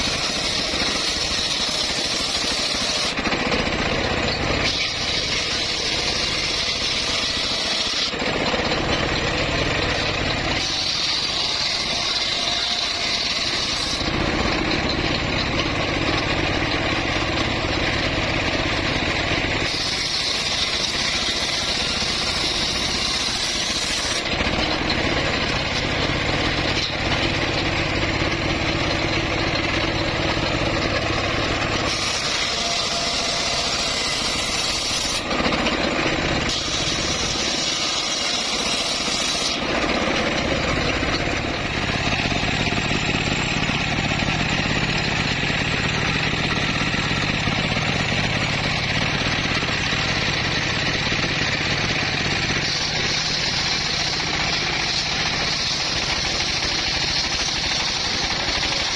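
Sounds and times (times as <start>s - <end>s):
bandsaw sawing wood: 0.0s - 58.9s.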